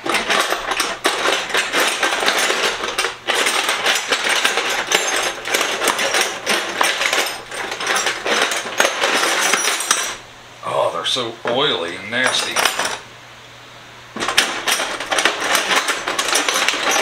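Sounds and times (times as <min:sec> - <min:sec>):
metal tools clattering in a toolbox: 0:00.0 - 0:10.2, 0:12.2 - 0:13.0, 0:14.2 - 0:17.0.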